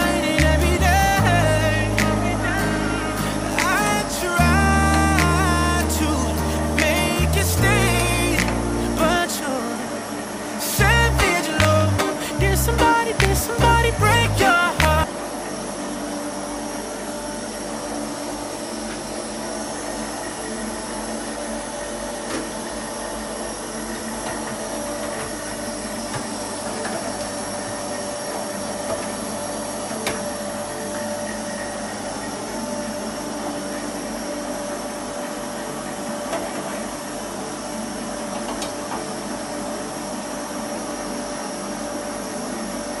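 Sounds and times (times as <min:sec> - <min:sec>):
machine whirring and humming: 0:00.0 - 0:43.0.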